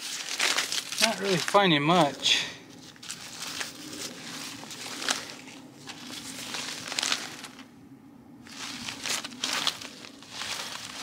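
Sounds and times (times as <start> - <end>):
paper rustling and crinkling: 0.0 - 7.7, 8.5 - 11.0.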